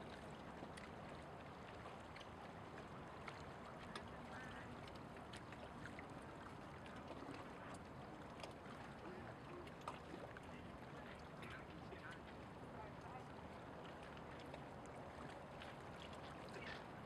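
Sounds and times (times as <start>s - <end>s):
small ticks and splashes: 0.0s - 17.0s
small waves lapping: 0.0s - 17.0s.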